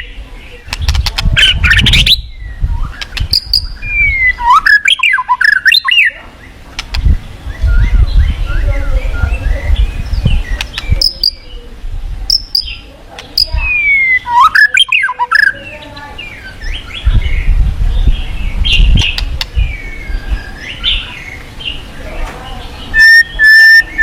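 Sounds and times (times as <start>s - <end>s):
songbird singing chirps and whistles: 0.0s - 24.0s.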